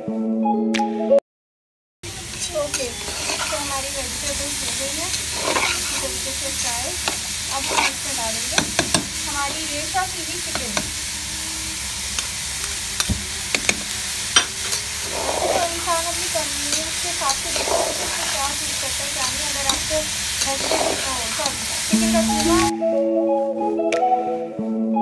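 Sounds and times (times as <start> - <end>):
vegetables sizzling in a pan: 2.0 - 22.7
spatula scraping a pan: 2.2 - 22.7.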